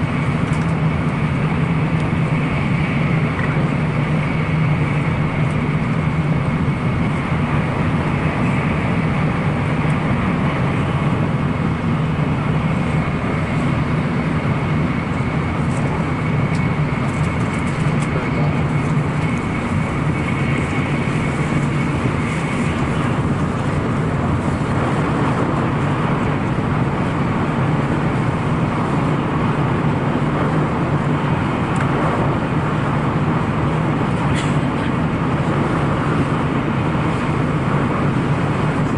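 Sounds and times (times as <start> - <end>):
train rumble and hum: 0.0 - 38.9.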